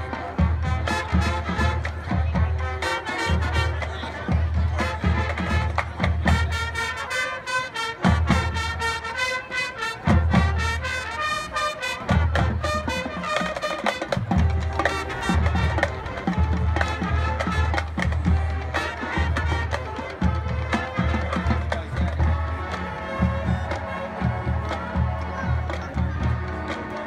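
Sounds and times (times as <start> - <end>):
brass held notes: 0.0 - 4.2, 4.8 - 27.0
drumline rapid strokes: 0.0 - 27.0
marching band playing: 0.0 - 27.0.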